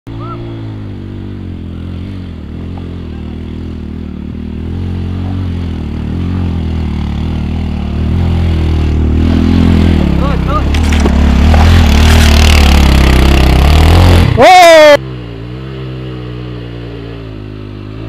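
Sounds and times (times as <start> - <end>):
buggy engine running: 0.1 - 18.0.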